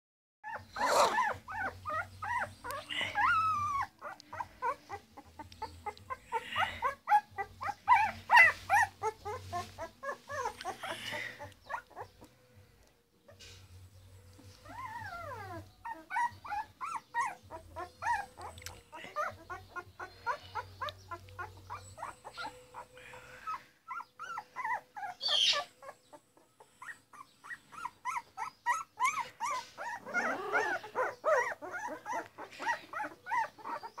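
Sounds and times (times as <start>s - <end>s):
puppies whimpering and squeaking: 0.4s - 34.0s.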